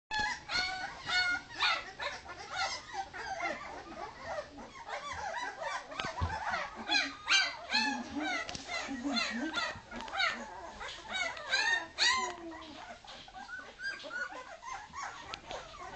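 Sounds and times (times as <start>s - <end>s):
puppies whining and crying: 0.1s - 15.9s.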